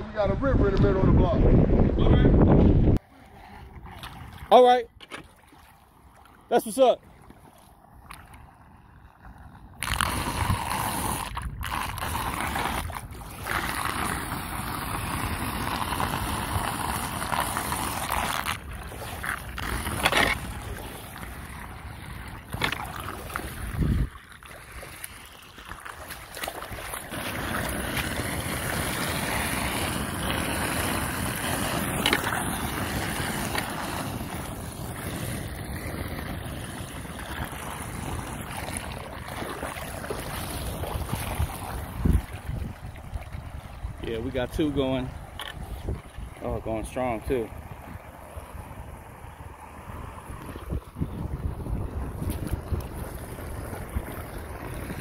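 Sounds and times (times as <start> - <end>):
water rushing down storm drain: 8.0 - 55.0.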